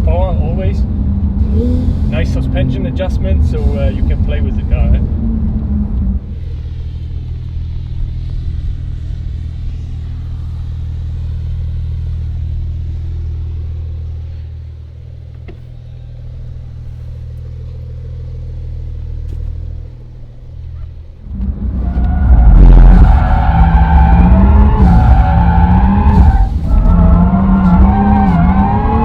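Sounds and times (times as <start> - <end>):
car engine droning in cabin: 0.0 - 29.0.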